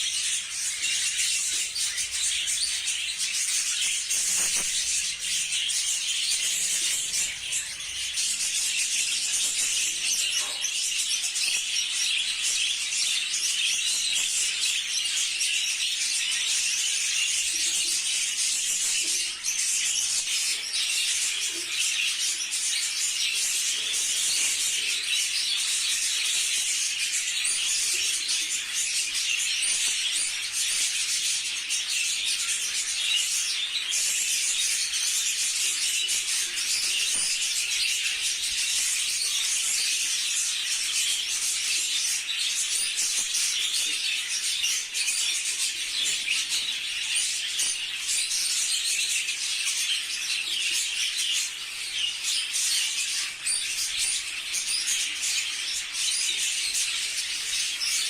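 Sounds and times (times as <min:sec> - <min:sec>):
flock of budgerigars chirping: 0:00.0 - 0:58.0.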